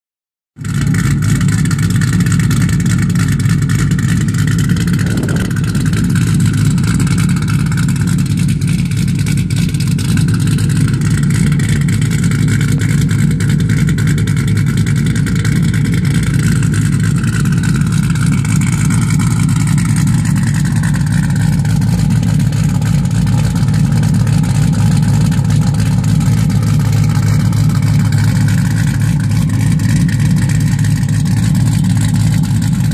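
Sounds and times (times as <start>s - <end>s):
car engine idling: 0.6s - 32.9s.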